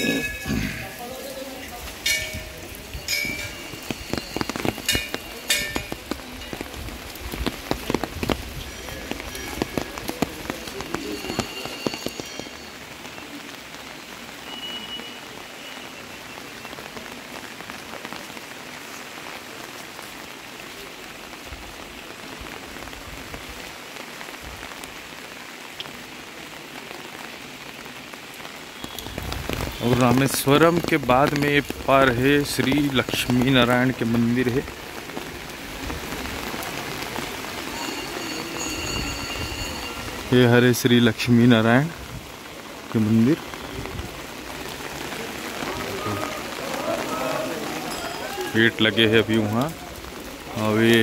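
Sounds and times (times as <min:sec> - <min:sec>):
rain drops tapping: 0:00.0 - 0:51.0
rain hiss: 0:00.0 - 0:51.0.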